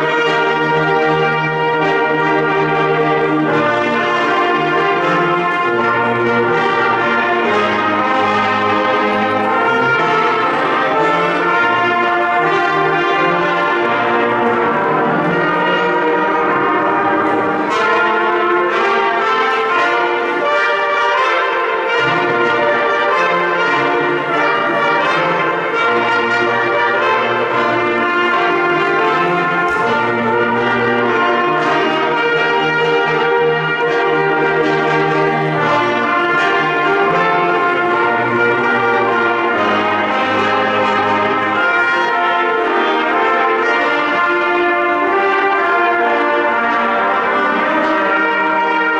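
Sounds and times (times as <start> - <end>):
brass ensemble playing: 0.0 - 48.9.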